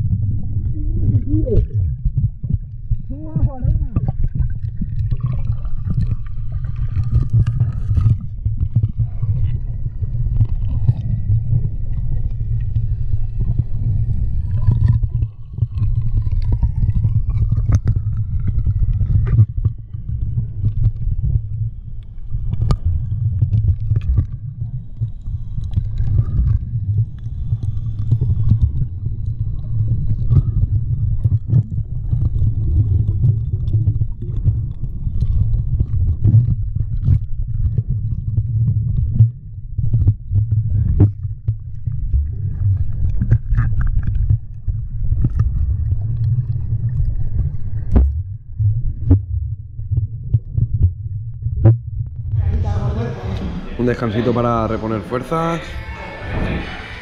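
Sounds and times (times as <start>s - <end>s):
faint gurgling: 0.0s - 48.2s
underwater rumble of water: 0.0s - 57.0s.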